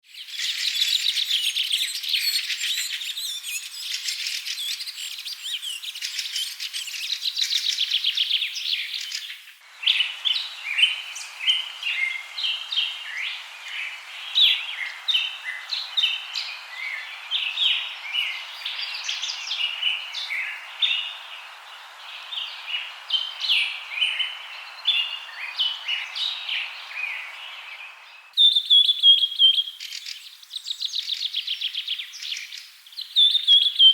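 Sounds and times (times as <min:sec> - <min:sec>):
songbirds chirping and trilling: 0:00.0 - 0:33.9
faint hiss: 0:00.1 - 0:33.9.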